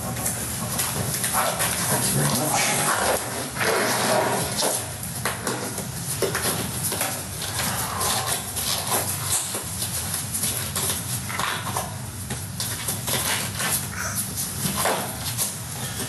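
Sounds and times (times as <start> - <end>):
steady hiss and hum: 0.0 - 16.0.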